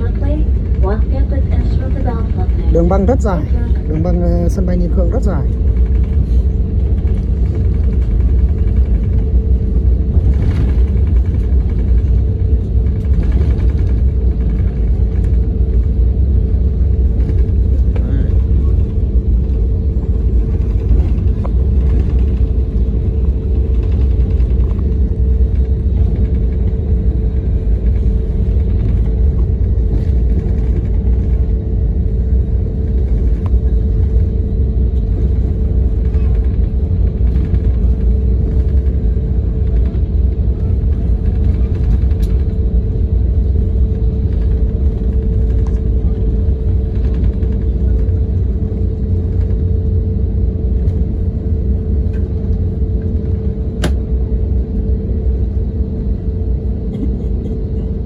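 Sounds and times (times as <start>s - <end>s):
airliner engines low rumble: 0.0s - 58.0s
engine hum: 0.0s - 58.0s.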